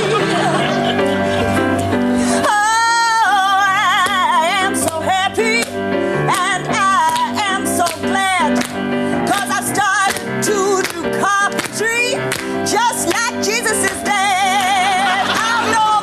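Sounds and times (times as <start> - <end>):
gospel piano accompaniment: 0.0 - 16.0.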